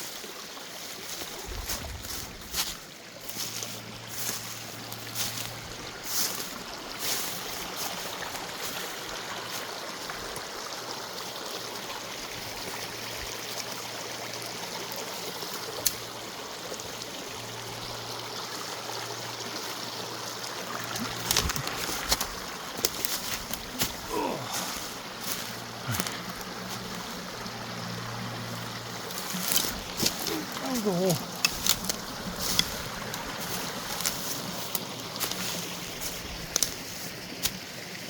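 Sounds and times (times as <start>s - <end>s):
water rushing over rocks: 0.0s - 38.0s.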